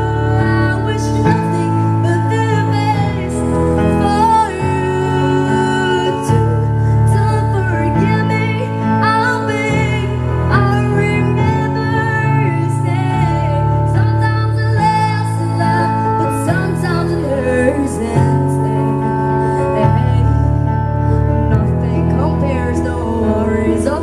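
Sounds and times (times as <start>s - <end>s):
sustained bass notes: 0.0s - 24.0s
woman singing pop song: 0.0s - 24.0s.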